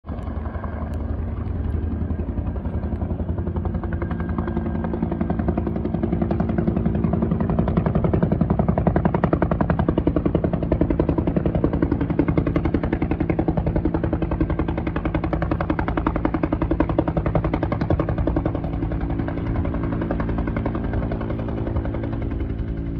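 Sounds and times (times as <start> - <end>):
helicopter rotor chop: 0.0 - 22.9.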